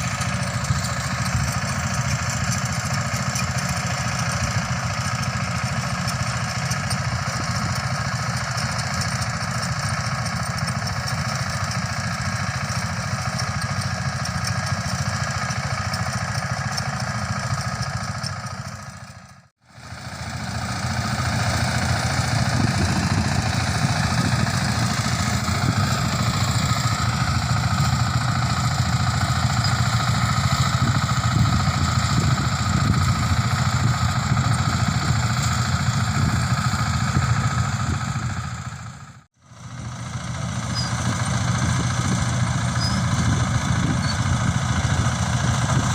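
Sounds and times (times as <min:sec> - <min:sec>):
combine harvester droning: 0:00.0 - 0:45.9.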